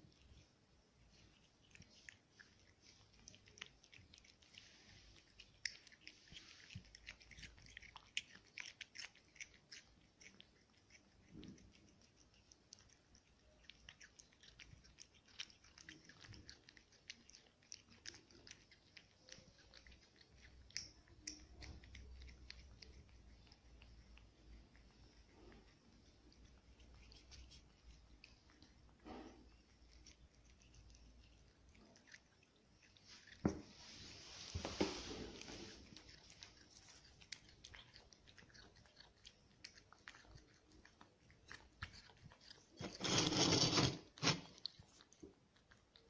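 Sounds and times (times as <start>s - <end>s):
cat chewing and licking food: 0.0s - 46.0s.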